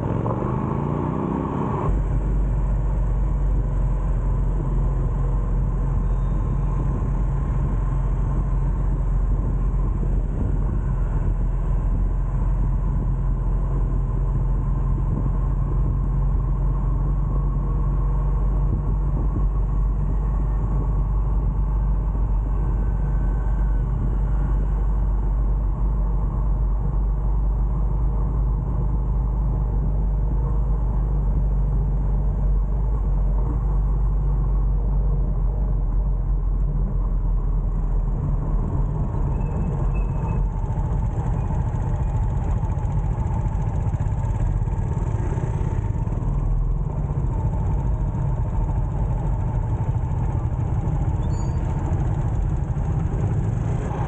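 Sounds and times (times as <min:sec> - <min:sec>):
motorbike engine rumble: 0:00.0 - 0:54.0
surrounding traffic: 0:00.0 - 0:54.0.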